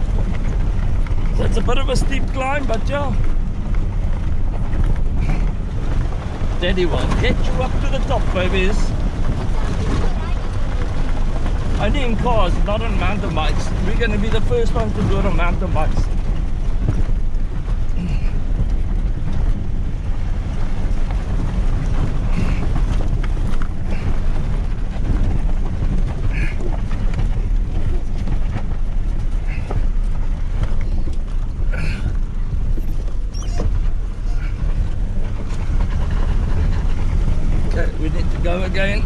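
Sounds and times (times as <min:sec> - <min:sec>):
truck engine and tyres rumbling: 0:00.0 - 0:39.0
wind buffeting microphone: 0:00.0 - 0:39.0.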